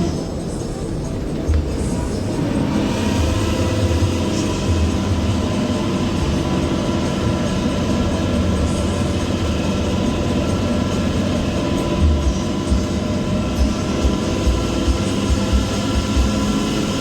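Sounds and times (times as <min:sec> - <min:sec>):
bus engine deep growl: 0:00.0 - 0:17.0
heavy low pulses: 0:00.0 - 0:17.0.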